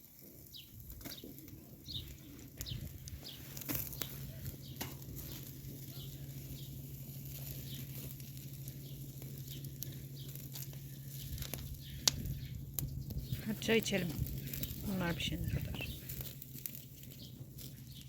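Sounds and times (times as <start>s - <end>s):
small birds chirping: 0.0s - 18.0s
steady low hum: 0.8s - 18.0s.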